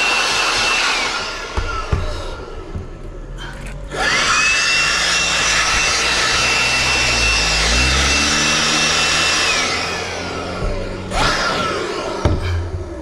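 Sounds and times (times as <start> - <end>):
battery chainsaw motor whine: 0.0 - 2.8, 3.7 - 12.8.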